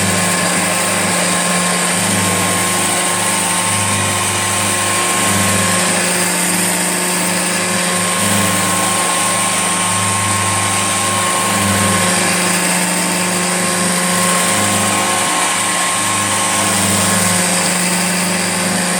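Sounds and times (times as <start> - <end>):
vacuum cleaner running: 0.0 - 18.9.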